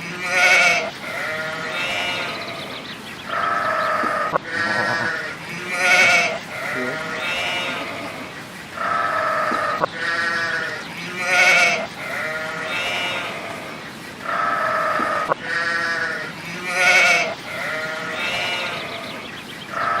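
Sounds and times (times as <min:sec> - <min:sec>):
farm animal bleating: 0:00.2 - 0:20.0.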